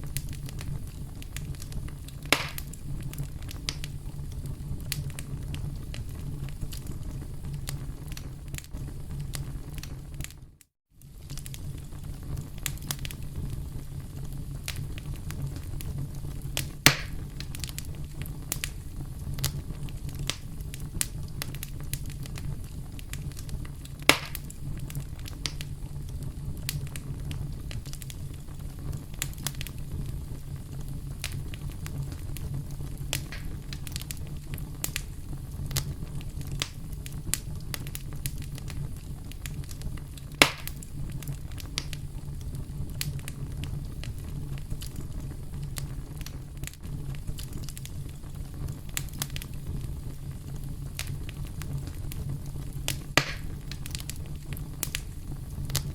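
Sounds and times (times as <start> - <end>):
campfire crackling: 0.0 - 55.9
loud pops from fire: 0.0 - 55.9.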